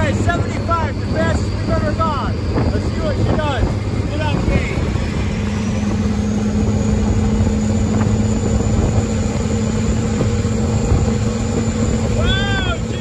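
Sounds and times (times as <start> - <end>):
car engine drone: 0.0 - 13.0
road and wind noise: 0.0 - 13.0.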